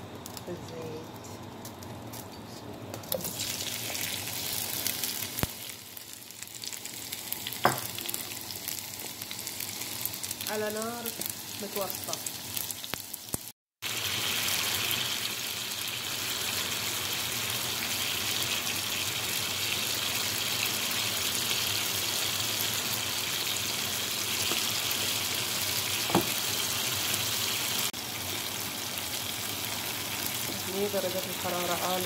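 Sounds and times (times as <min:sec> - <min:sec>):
tomatoes sizzling in oil: 0:03.1 - 0:32.0.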